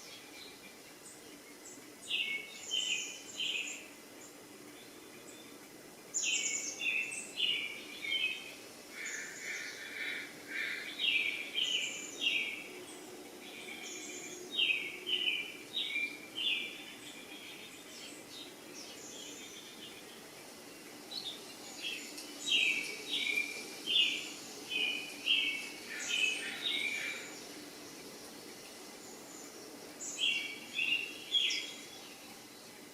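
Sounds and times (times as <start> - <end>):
bird chirping: 0.0 - 32.7
faint steady hum: 0.0 - 32.9.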